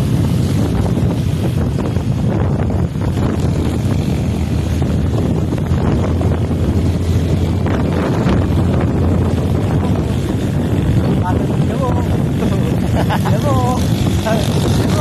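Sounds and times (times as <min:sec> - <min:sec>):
motorcycle engine drone: 0:00.0 - 0:15.0
wind buffeting microphone: 0:00.0 - 0:15.0.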